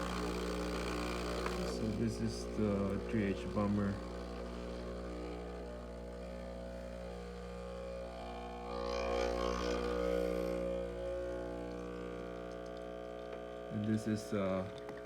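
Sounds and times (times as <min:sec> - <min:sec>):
espresso machine hissing: 0:00.0 - 0:15.0
espresso machine pump humming: 0:00.0 - 0:15.0.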